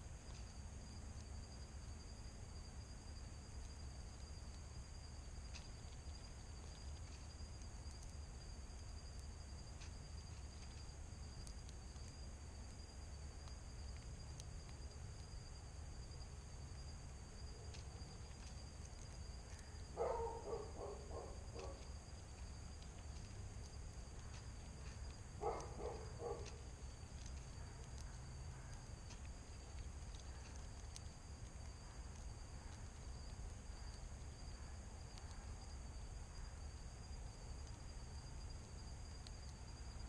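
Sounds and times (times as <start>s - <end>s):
high-pitched insect chorus: 0.0s - 40.0s.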